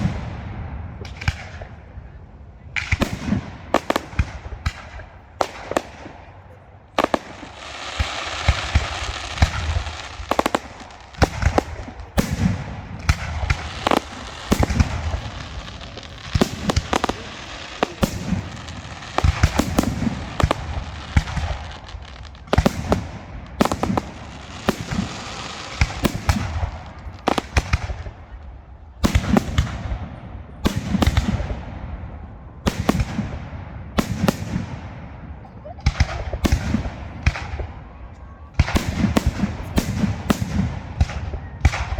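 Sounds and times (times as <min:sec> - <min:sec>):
fireworks crackling: 0:00.0 - 0:02.0, 0:02.7 - 0:41.9
fireworks bursting with sharp bangs: 0:00.0 - 0:41.9
low rumbling echo: 0:00.0 - 0:41.9.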